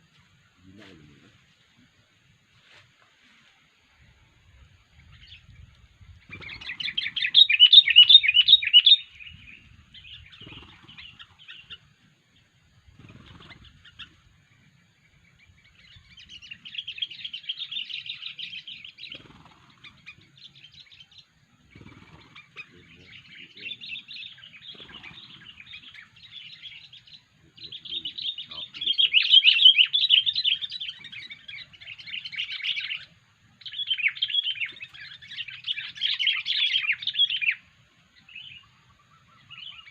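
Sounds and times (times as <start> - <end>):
bulbul chattering calls: 6.2 - 12.0, 12.8 - 39.9.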